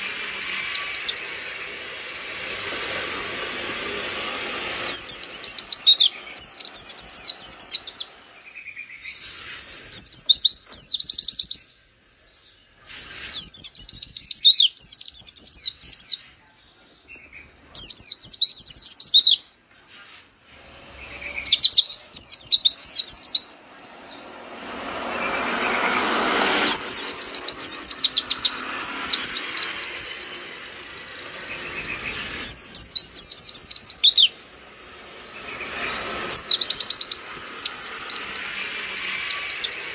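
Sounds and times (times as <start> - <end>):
bird twittering song: 0.0 - 39.9
rushing background noise: 0.0 - 39.9.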